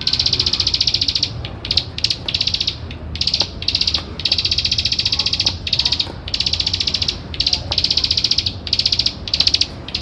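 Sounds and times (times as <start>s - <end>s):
bird clicking trill: 0.0s - 10.0s.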